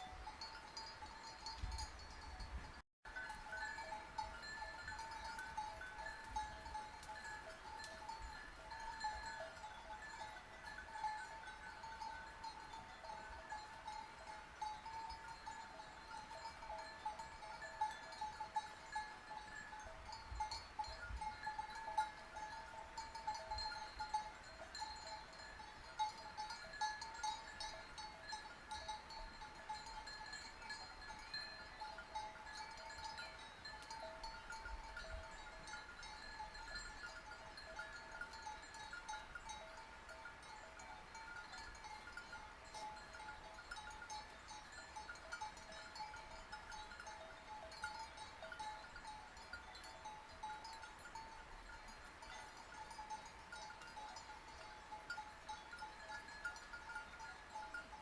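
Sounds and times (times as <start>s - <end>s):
sheep bells clanking: 0.0s - 58.0s.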